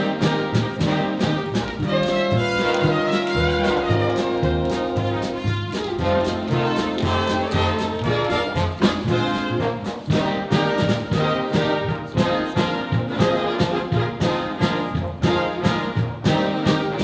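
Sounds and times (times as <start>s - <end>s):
brass band playing upbeat tune: 0.0s - 17.0s.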